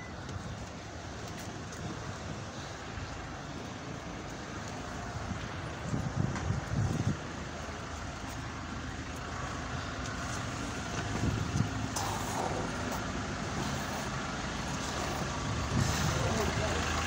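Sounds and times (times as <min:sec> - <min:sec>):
traffic on wet street: 0:00.0 - 0:17.0
vehicles driving past close: 0:00.0 - 0:17.0.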